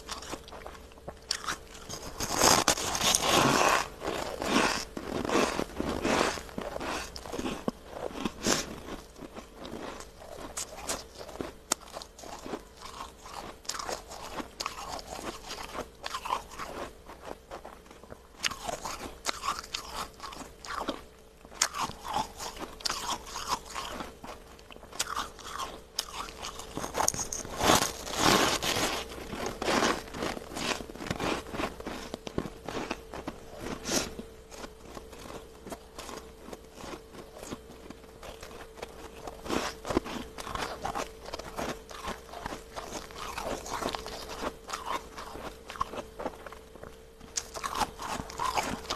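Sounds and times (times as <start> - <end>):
faint steady hum: 0.0 - 48.9
person chewing crunchy frost: 0.0 - 48.9.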